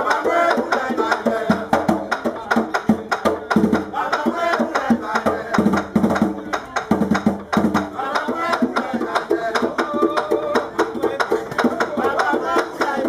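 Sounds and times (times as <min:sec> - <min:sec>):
hand drum beating: 0:00.0 - 0:13.0.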